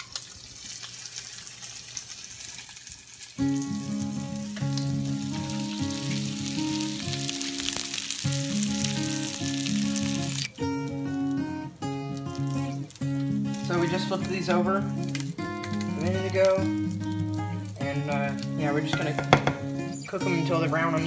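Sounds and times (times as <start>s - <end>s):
fish frying in hot oil: 0.0s - 21.0s
background music: 3.4s - 21.0s.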